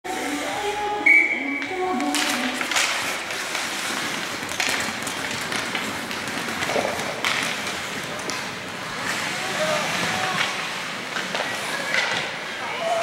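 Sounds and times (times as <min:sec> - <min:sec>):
hockey sticks tapping puck: 0:01.6 - 0:13.0
skates scraping on ice: 0:01.6 - 0:13.0.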